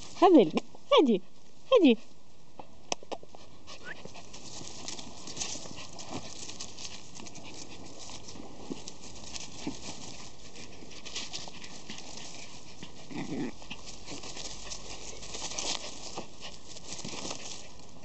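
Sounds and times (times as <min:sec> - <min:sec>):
leaves rustling: 0:00.0 - 0:02.6, 0:03.3 - 0:18.0
paws pattering on grass: 0:00.0 - 0:18.0.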